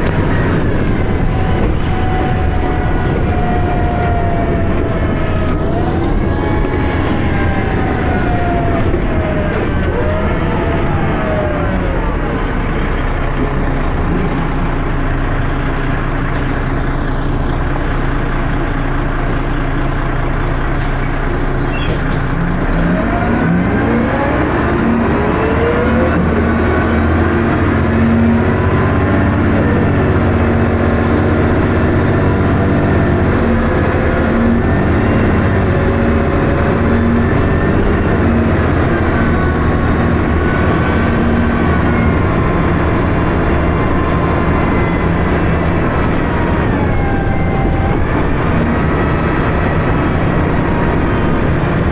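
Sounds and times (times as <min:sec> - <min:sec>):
gearbox whine: 0:00.0 - 0:18.8, 0:21.3 - 0:51.9
bus engine running hard: 0:00.0 - 0:51.9.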